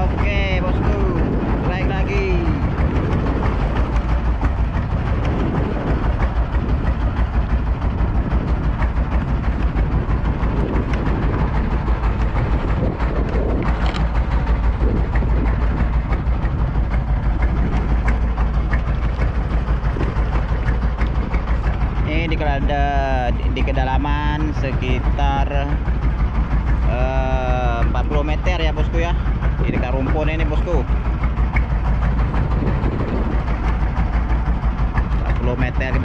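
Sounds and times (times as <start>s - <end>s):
boat engine throbbing: 0.0s - 36.0s.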